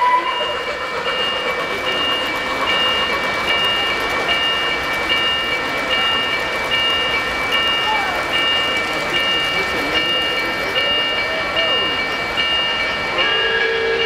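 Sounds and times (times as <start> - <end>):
model train wheels rumbling on track: 0.0 - 14.0.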